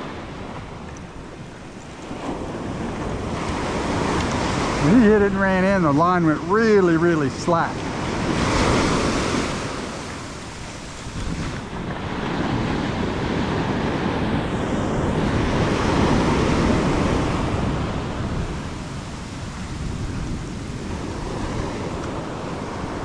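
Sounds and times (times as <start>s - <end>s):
ocean surf washing onto beach: 0.0s - 23.0s.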